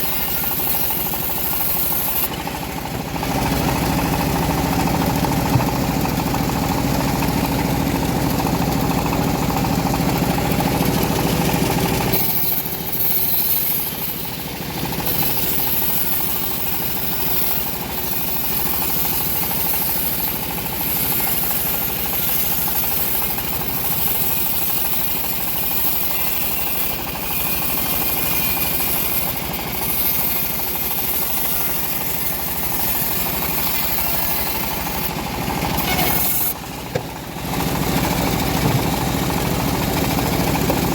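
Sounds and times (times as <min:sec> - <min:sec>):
band sawmill running: 0:00.0 - 0:40.9.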